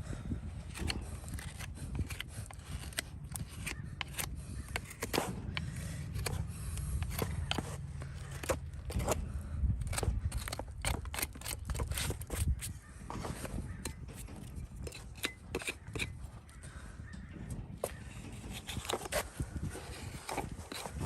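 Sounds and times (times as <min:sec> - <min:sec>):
steel tools scraping hoof: 0:00.7 - 0:16.5, 0:17.5 - 0:21.0.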